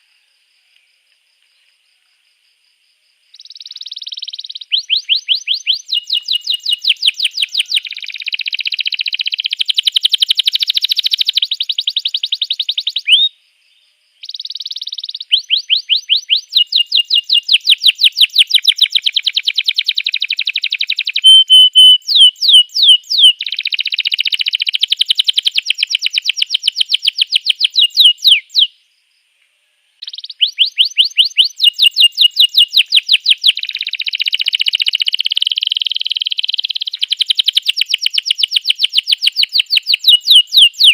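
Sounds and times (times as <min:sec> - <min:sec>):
canary singing trills: 0:03.3 - 0:13.4, 0:14.2 - 0:28.9, 0:30.0 - 0:40.9.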